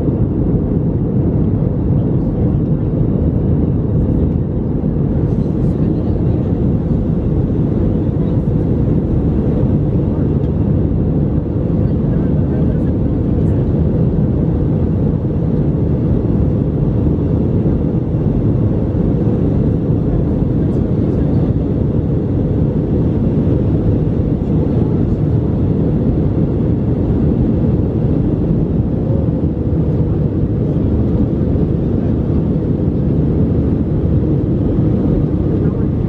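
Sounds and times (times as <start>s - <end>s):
jet engine cabin roar: 0.0s - 36.0s.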